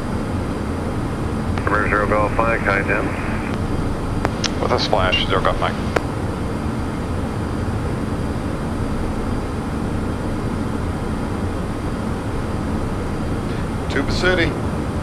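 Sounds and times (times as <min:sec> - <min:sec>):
rushing airflow: 0:00.0 - 0:13.9
jet engines droning: 0:00.0 - 0:15.0.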